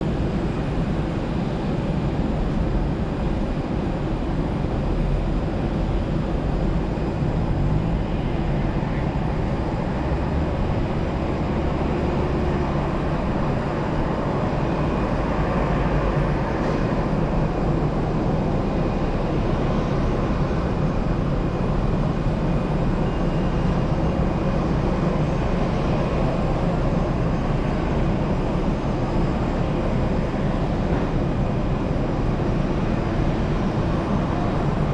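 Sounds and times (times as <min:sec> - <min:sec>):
aircraft drone: 0:00.0 - 0:34.9.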